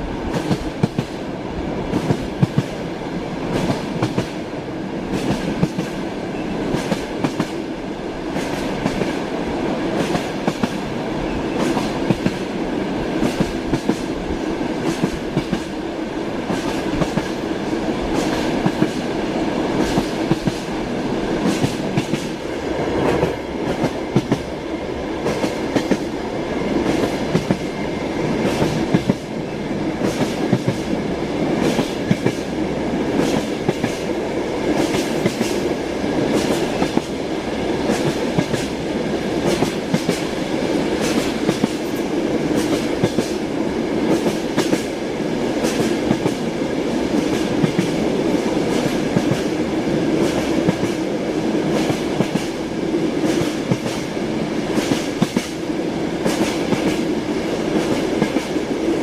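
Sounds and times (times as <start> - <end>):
train wheels clacking over rails: 0.3 - 1.2, 1.8 - 59.0.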